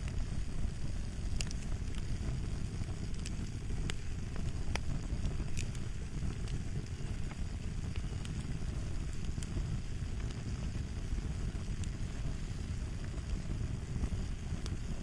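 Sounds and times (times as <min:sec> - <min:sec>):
fire crackling: 0:00.0 - 0:15.0
sharp pops and snaps: 0:00.0 - 0:15.0.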